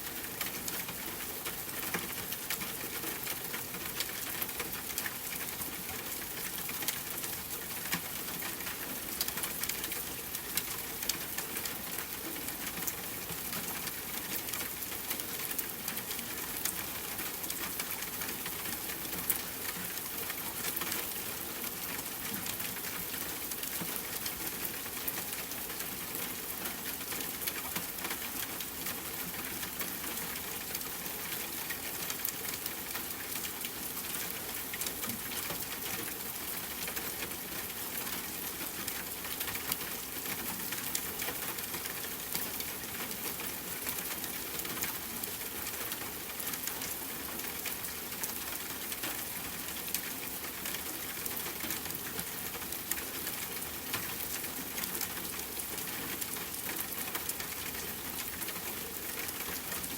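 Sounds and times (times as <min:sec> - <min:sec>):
rain falling on a tent: 0:00.0 - 0:59.9.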